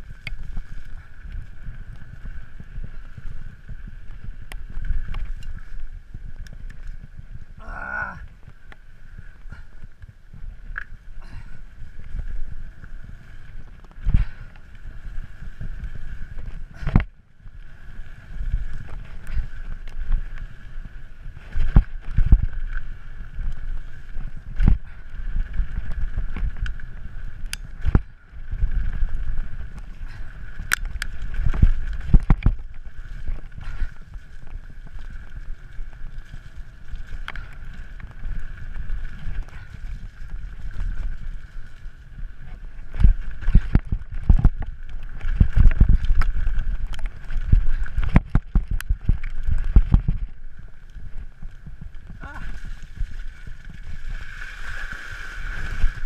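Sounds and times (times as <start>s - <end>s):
wind on microphone: 0.0s - 56.0s
bike knocking and rattling: 8.3s - 56.0s.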